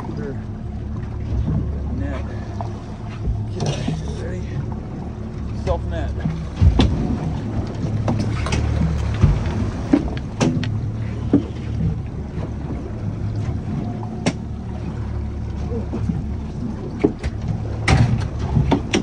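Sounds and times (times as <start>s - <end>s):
outboard motor rumbling: 0.0s - 19.0s
water against boat hull: 0.0s - 19.0s
wind: 0.0s - 19.0s
sharp knocks on boat: 1.0s - 4.8s, 5.5s - 19.0s.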